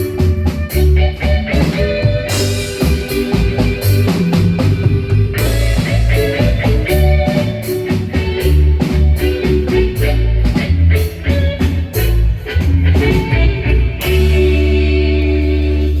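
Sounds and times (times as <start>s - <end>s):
marimba band with drums and bass: 0.0s - 16.0s.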